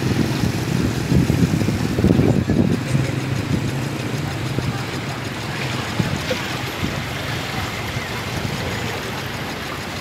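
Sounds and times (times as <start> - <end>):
motorbike engines running: 0.0 - 10.0
scooters wading through water: 0.0 - 10.0.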